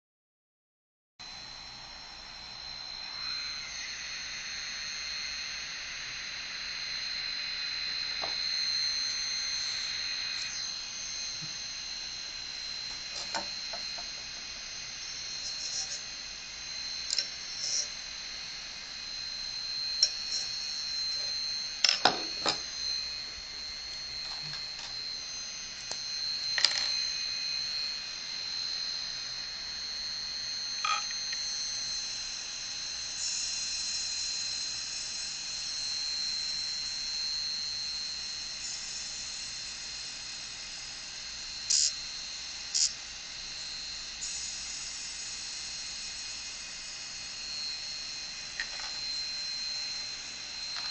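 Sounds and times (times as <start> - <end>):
hard drive motor whine: 1.2 - 50.9.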